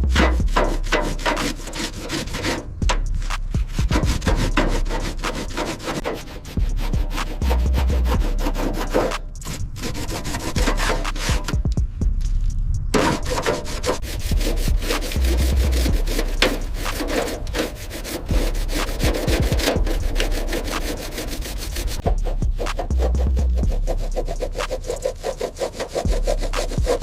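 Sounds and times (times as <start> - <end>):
low bass tone: 0.0 - 1.7, 2.7 - 5.6, 6.5 - 9.8, 10.6 - 13.0, 14.0 - 25.2, 26.1 - 27.0
scraping strokes on hard surface: 0.1 - 11.6, 12.9 - 27.0.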